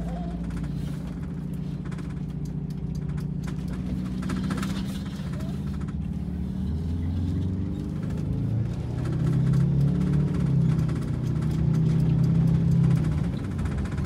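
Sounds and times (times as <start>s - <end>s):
motorhome engine running: 0.0s - 14.0s.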